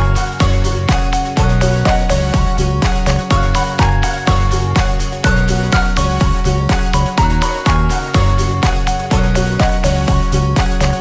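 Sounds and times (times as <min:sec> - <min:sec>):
upbeat electronic music: 0:00.0 - 0:11.0.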